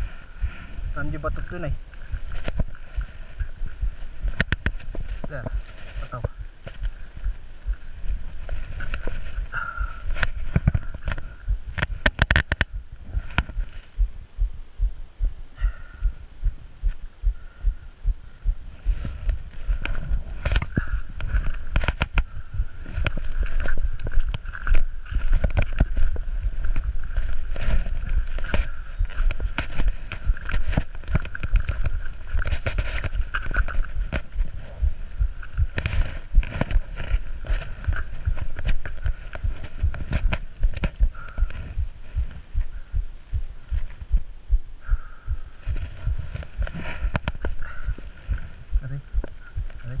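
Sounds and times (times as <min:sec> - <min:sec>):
steady high buzz: 0:00.0 - 0:50.0.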